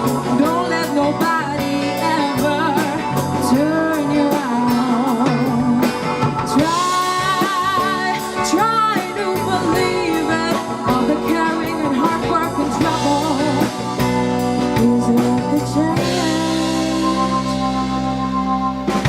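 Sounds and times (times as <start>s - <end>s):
drum kit beat: 0.0s - 19.0s
lead guitar melody: 0.0s - 19.0s
rock band playing: 0.0s - 19.0s.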